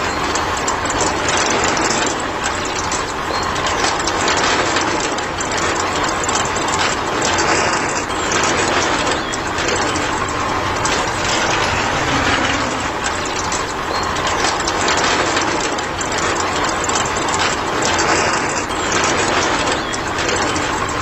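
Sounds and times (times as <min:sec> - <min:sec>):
grinding rattle of gears: 0:00.0 - 0:21.0.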